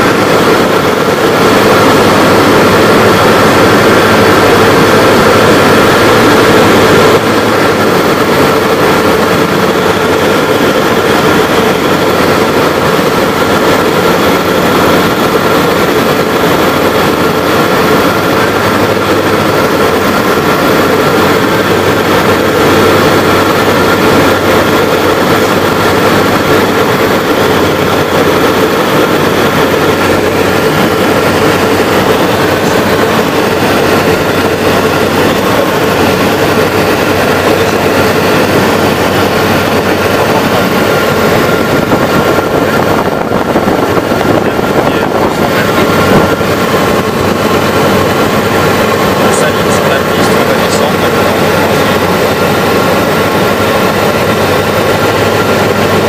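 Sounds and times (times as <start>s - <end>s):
light aircraft engine droning: 0.0s - 56.0s
steady hum: 0.0s - 56.0s.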